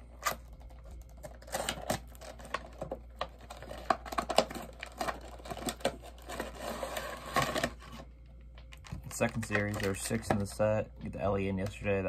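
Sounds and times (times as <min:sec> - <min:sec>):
cardboard packaging rustling and clicking: 0:00.2 - 0:10.6.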